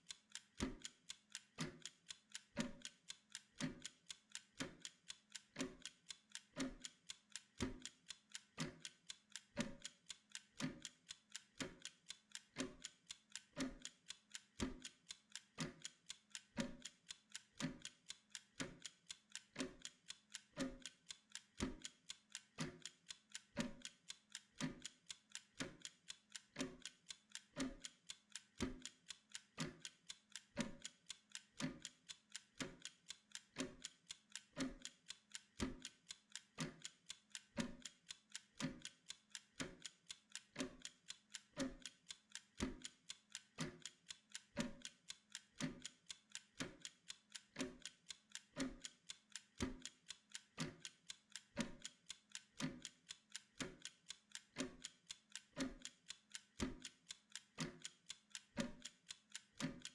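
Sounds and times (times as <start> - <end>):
kitchen timer ticking: 0.0 - 59.9.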